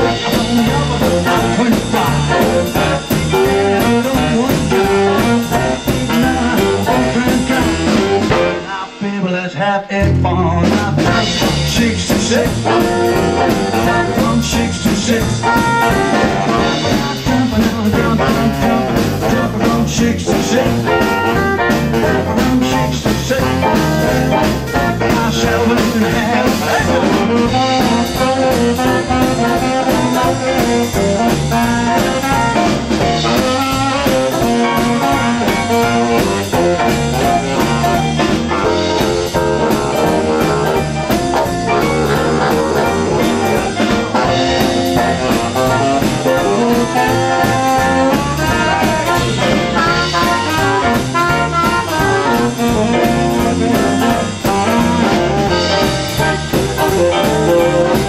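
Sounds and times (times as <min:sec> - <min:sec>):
saxophone: 0:00.0 - 0:09.0, 0:11.1 - 0:58.0
swing band playing: 0:00.0 - 0:58.0.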